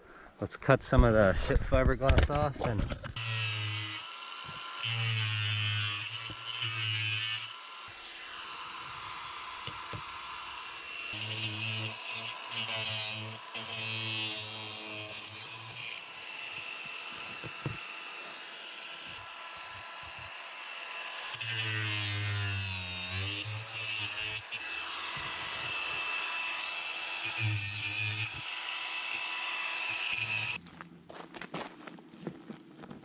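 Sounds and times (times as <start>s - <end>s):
angle grinder cutting fiberglass: 3.0s - 30.6s.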